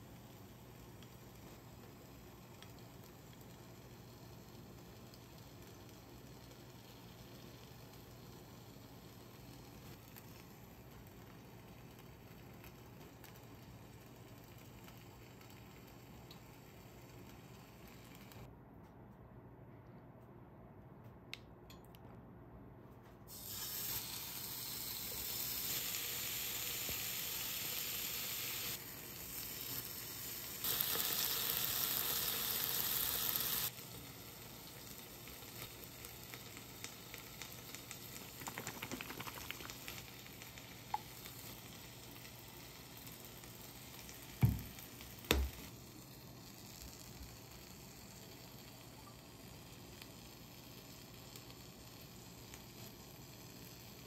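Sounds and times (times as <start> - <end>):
meat sizzling on hot plate: 0.0 - 18.5, 23.3 - 54.0.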